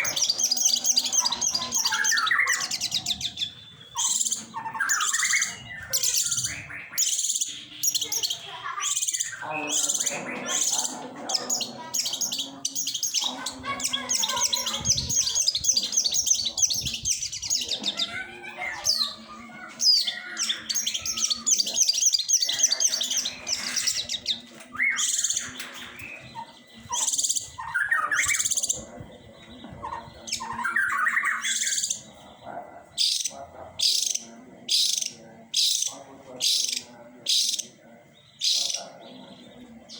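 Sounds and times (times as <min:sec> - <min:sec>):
bird chattering trills and calls: 0:00.0 - 0:39.9.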